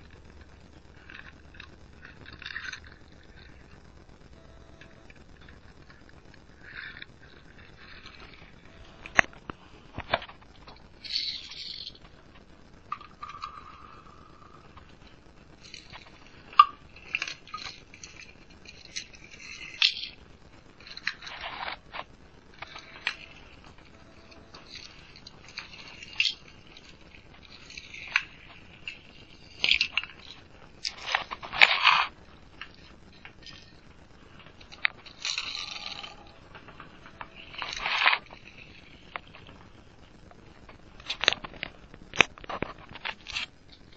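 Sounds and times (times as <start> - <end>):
toy cars clicking and knocking: 0.0 - 43.9
toy cars scraping and rustling: 0.0 - 43.9.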